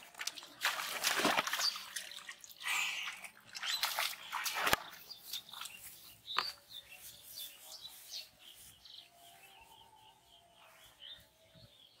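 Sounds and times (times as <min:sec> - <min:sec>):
birds chirping: 0:01.4 - 0:12.0.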